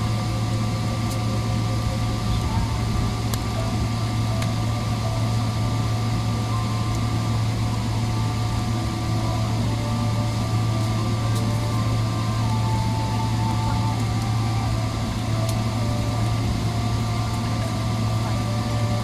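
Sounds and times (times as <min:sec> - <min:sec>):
airplane cabin drone: 0:00.0 - 0:19.0
faint high whining tones: 0:00.0 - 0:19.0.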